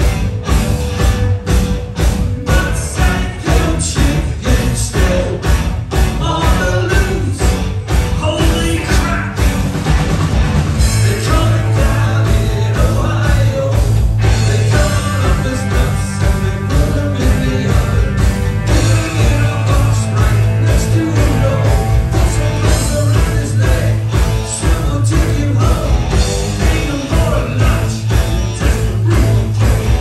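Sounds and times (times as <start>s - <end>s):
drums: 0.0s - 30.0s
electric guitar: 0.0s - 30.0s
lead vocal singing: 2.4s - 7.5s, 10.8s - 30.0s.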